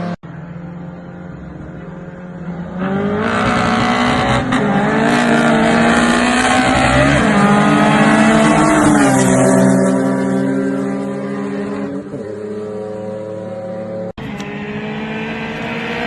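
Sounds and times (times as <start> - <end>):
racing car engines at high revs: 0.0 - 16.0.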